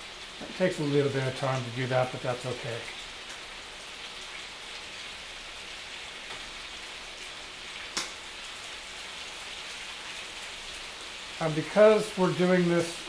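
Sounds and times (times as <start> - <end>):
chicken frying in a pan: 0.0 - 13.0.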